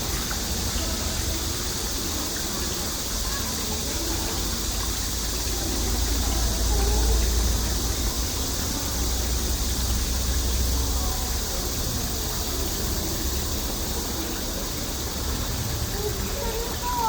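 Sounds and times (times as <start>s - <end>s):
faint children's voices: 0.0s - 17.0s
rushing hiss: 0.0s - 17.0s.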